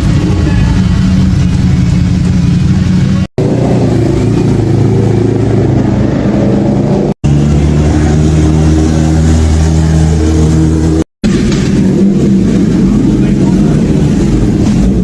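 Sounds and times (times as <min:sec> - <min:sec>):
deep steady engine note: 0:00.0 - 0:15.0
loud engine exhaust: 0:00.0 - 0:15.0.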